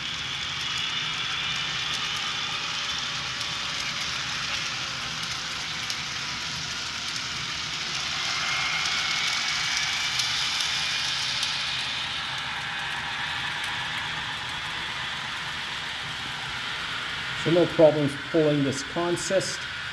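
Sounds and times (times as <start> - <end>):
model train wheels clattering: 0.0 - 17.6.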